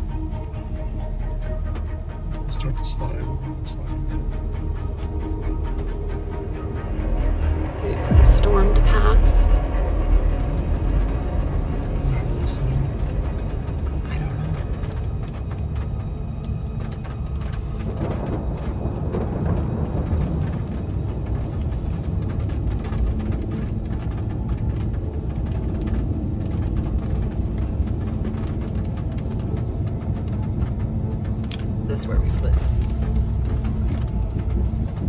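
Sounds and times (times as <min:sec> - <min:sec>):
vehicle rumble inside cab: 0:00.0 - 0:35.0.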